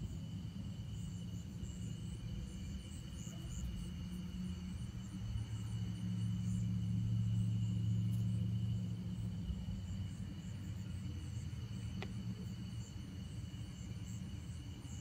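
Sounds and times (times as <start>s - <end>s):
crickets trilling: 0.0s - 15.0s
low hum: 0.0s - 15.0s.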